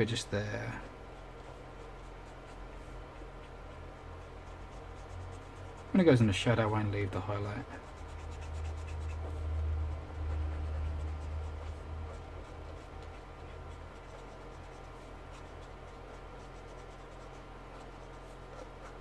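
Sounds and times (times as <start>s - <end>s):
faint hum: 0.0s - 19.0s
marker rubbing on card: 1.0s - 6.0s, 6.9s - 19.0s.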